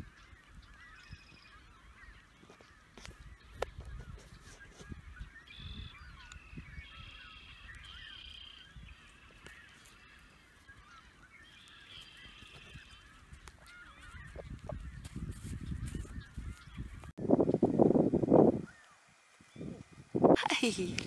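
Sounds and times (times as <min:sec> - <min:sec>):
drawn-out high bird calls: 0:00.0 - 0:17.0
birds chirping: 0:00.0 - 0:19.8
wind rumbling on microphone: 0:00.0 - 0:21.0.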